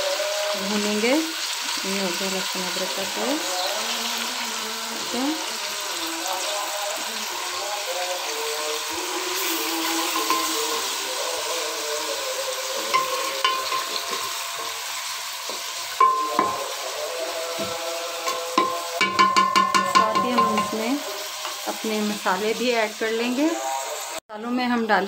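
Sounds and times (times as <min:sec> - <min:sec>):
food sizzling in a metal pot: 0:00.0 - 0:24.2.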